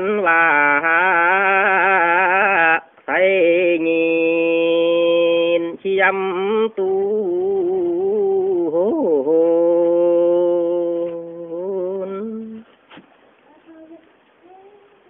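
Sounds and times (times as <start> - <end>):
man singing unaccompanied: 0.0 - 12.7.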